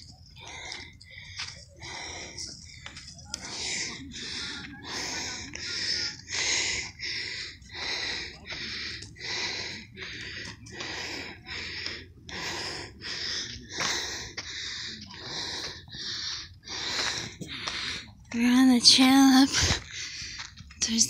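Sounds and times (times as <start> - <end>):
person breathing hard: 0.0 - 18.2, 19.5 - 20.6.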